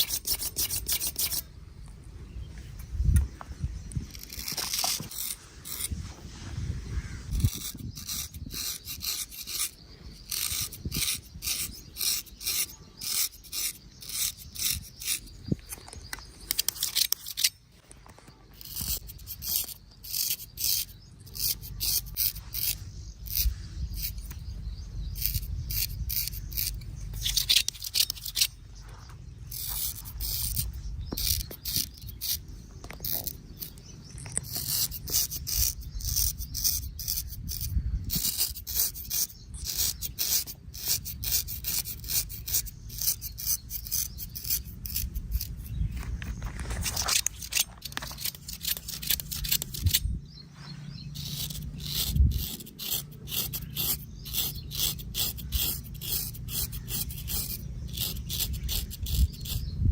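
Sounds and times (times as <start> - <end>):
razor scraping stubble: 0.0 - 1.5, 3.1 - 59.9.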